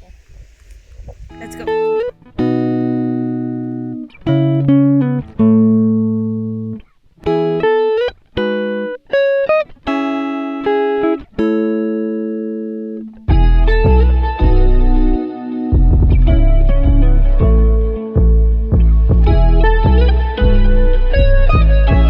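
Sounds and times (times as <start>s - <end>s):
clean guitar plucking: 1.0s - 22.0s.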